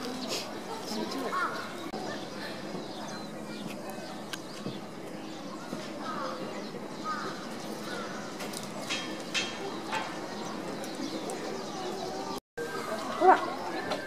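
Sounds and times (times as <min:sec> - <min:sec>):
bird calls: 0:00.0 - 0:14.0
outdoor background noise: 0:00.0 - 0:14.0.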